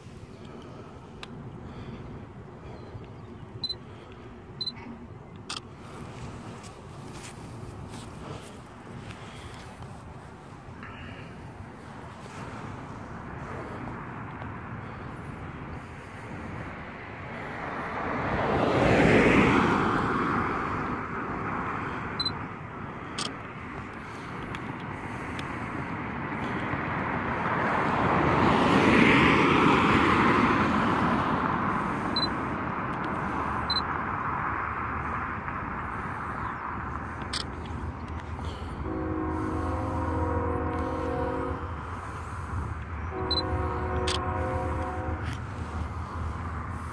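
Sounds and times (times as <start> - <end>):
road vehicles passing: 0.0 - 46.9.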